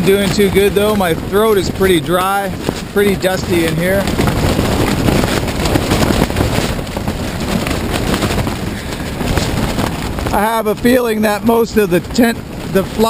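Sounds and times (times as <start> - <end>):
wind flapping tent fabric: 0.0 - 13.0.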